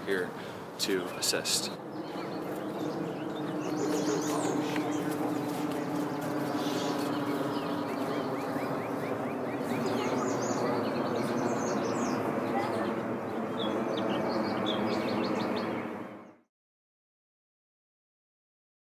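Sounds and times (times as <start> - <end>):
outdoor background noise: 0.0 - 16.4
small birds chirping: 0.0 - 16.4.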